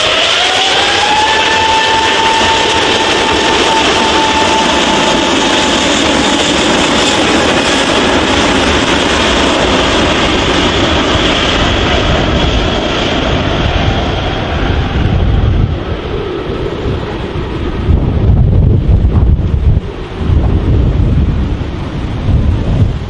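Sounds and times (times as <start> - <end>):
high jet whine: 0.0 - 23.0
jet engines roaring: 0.0 - 23.0.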